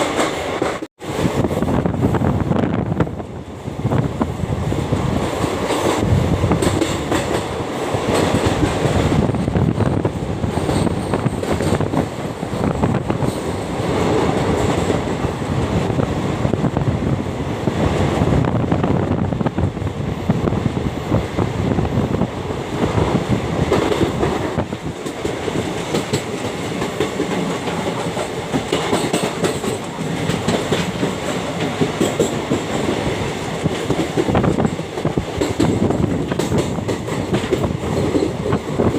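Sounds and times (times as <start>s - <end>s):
train wheels clattering on rails: 0.0s - 2.0s, 3.8s - 16.8s, 22.7s - 38.9s.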